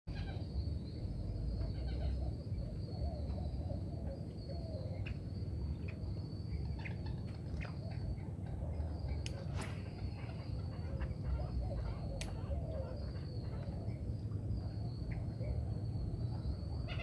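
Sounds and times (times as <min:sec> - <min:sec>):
high insect drone: 0:00.1 - 0:17.0
wavering bird calls: 0:00.1 - 0:17.0.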